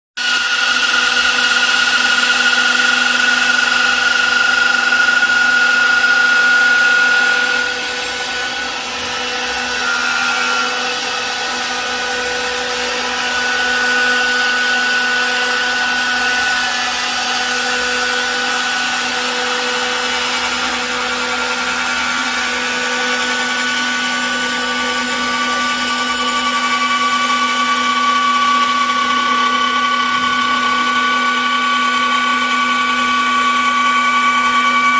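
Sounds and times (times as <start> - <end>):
router spindle whining: 0.2 - 34.9.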